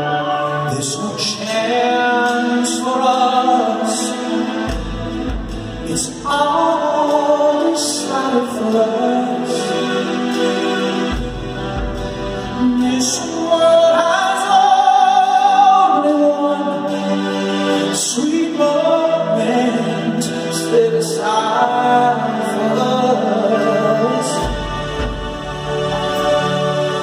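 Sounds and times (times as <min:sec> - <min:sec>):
man singing rock ballad: 0:00.0 - 0:10.1, 0:12.4 - 0:25.1
sustained backing chords: 0:00.0 - 0:27.0.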